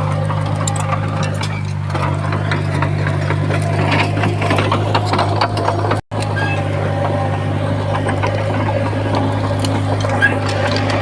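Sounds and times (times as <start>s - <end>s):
bulldozer diesel engine droning: 0.0s - 11.0s
tracks clanking and scraping soil: 0.0s - 11.0s.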